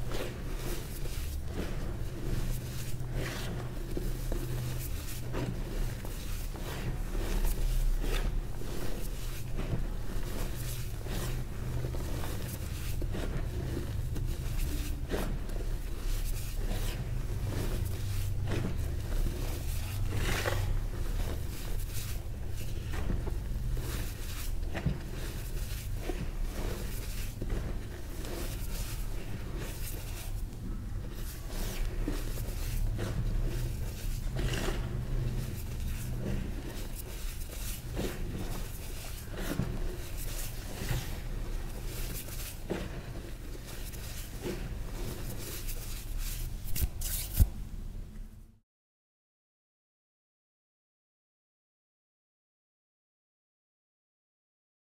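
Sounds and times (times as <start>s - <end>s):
chalk crumbled and rubbed by hand: 0.0s - 47.6s
steady low hum: 0.0s - 48.6s.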